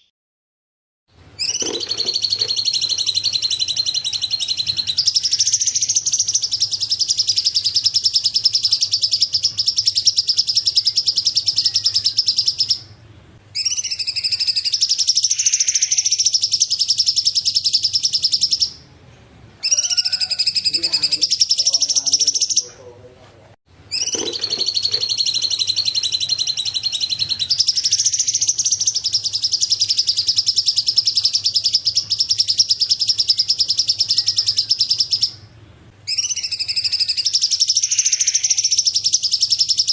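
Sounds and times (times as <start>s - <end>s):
songbirds chattering: 1.4s - 18.8s, 19.6s - 23.1s, 23.9s - 39.9s.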